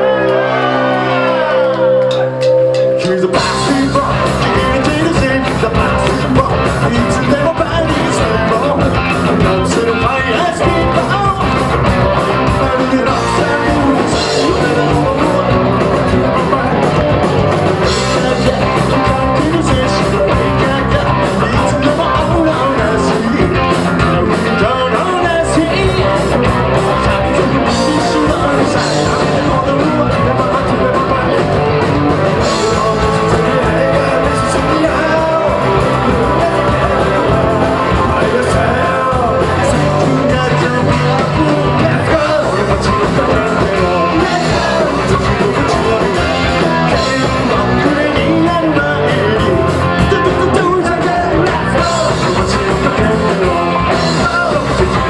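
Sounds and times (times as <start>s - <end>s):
person singing: 0.0s - 55.0s
rock band playing live: 0.0s - 55.0s.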